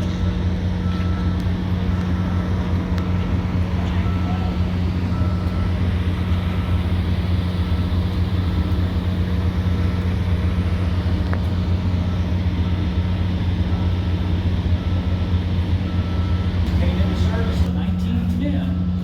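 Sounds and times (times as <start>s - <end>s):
low machinery drone: 0.0s - 19.0s.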